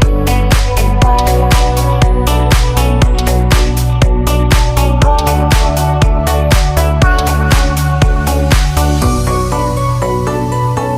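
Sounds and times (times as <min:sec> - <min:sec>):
electronic dance music: 0:00.0 - 0:10.9.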